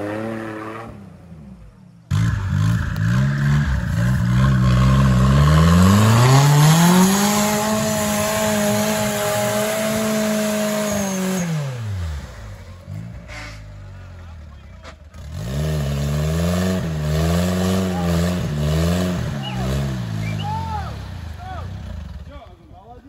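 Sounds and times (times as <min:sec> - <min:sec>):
vehicle engine revving hard: 0:00.0 - 0:01.1, 0:02.1 - 0:13.6, 0:15.2 - 0:22.3.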